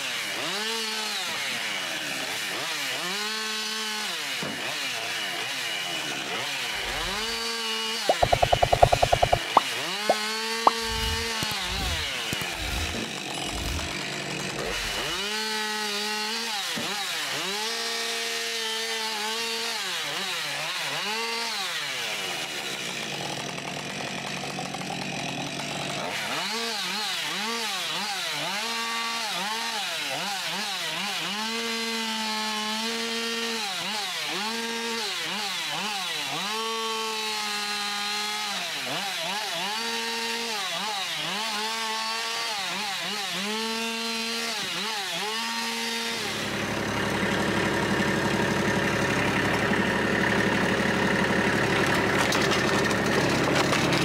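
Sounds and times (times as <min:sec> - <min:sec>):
chainsaw sawing wood: 0:00.0 - 0:54.0
chainsaw revving: 0:00.3 - 0:54.0.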